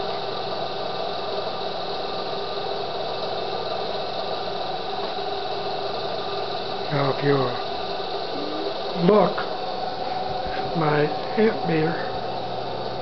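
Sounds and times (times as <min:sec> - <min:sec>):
alternator hum and whine: 0:00.0 - 0:13.0
hiss: 0:00.0 - 0:13.0.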